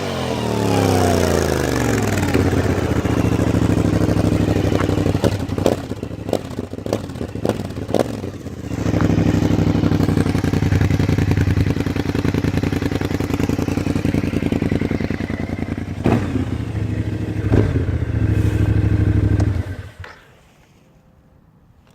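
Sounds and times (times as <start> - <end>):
scooter engine running: 0.0 - 20.1.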